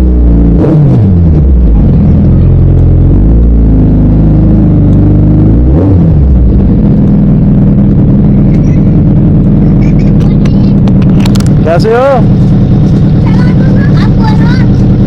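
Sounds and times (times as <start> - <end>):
motorcycle engine running loud: 0.0 - 15.0.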